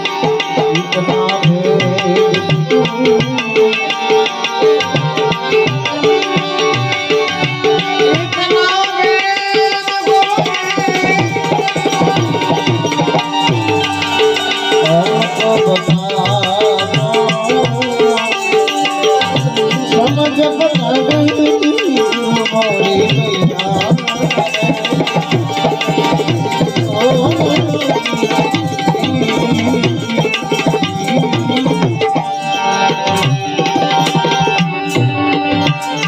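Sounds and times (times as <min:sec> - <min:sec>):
tabla beat: 0:00.0 - 0:36.0
wavering melodic instrument: 0:00.0 - 0:36.0.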